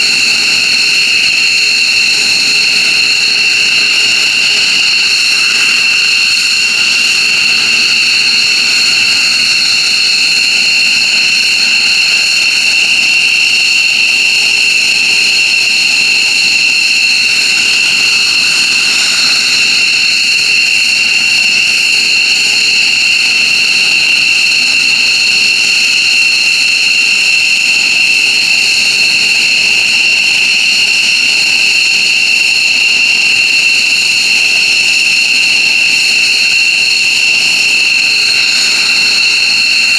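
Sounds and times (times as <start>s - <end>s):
jet engine whine: 0.0s - 39.9s
jet exhaust rush: 0.0s - 39.9s.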